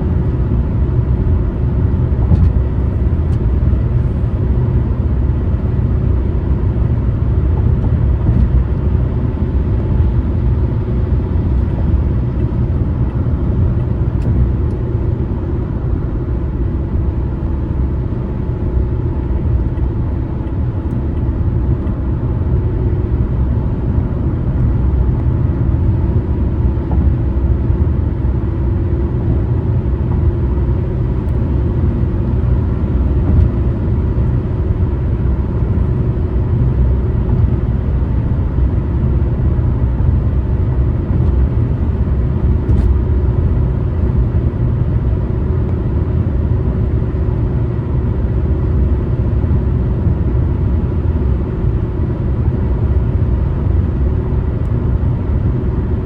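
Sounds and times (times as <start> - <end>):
tyre road noise: 0.0 - 48.4
car engine rumble: 0.0 - 56.0.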